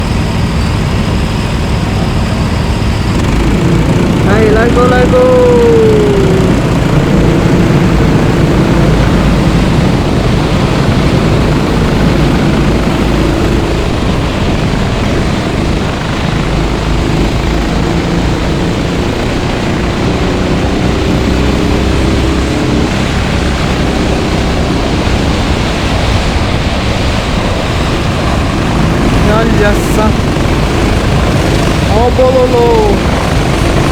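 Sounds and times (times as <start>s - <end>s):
go-kart engines droning: 0.0s - 33.9s.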